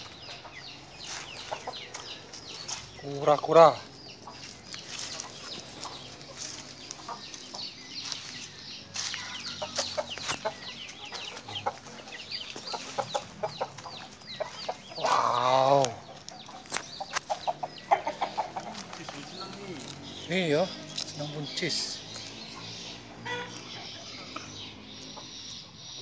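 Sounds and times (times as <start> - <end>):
birds chirping and clucking: 0.0 - 26.0.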